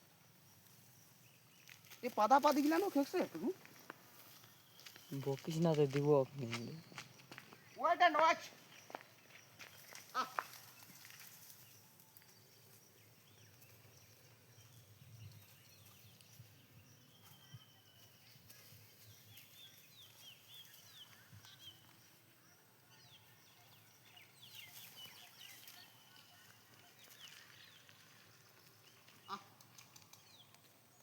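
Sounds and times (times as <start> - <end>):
small birds chirping: 0.1 - 31.0.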